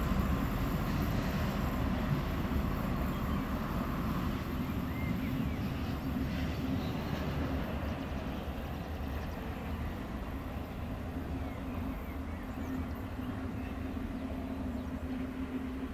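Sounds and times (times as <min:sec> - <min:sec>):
distant locomotive diesel engine: 0:00.0 - 0:15.9.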